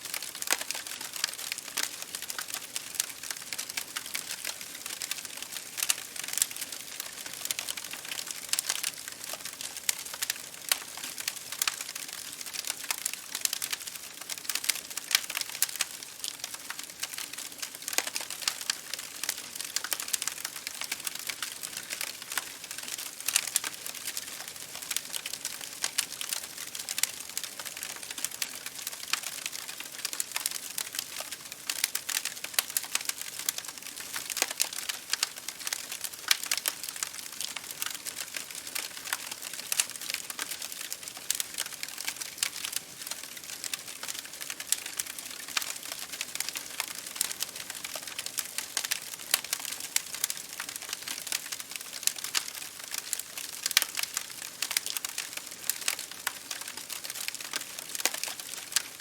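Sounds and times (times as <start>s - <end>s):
rain pattering on a window: 0.0s - 59.0s
wood fire crackling: 0.0s - 59.0s.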